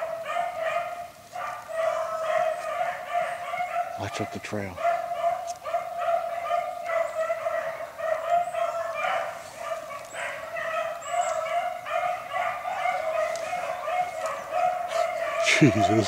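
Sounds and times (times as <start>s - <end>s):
beagles baying: 0.0s - 16.0s.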